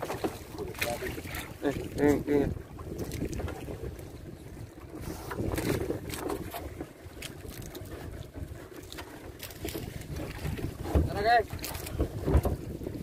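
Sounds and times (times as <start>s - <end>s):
sea noise: 0.0s - 13.0s
wind buffeting microphone: 0.0s - 13.0s.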